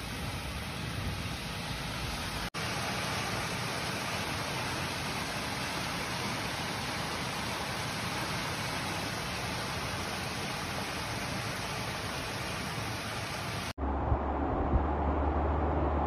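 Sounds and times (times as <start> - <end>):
heavy rain hissing: 0.0 - 13.8.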